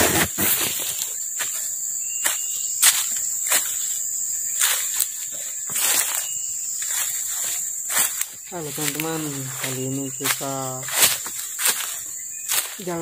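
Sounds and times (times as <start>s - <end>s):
footsteps crunching through dry leaves: 0.0s - 13.0s
insects droning: 0.0s - 13.0s.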